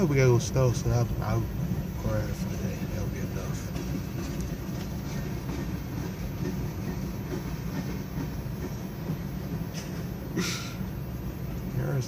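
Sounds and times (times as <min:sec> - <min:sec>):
train cars rumbling on rails: 0:00.0 - 0:12.0.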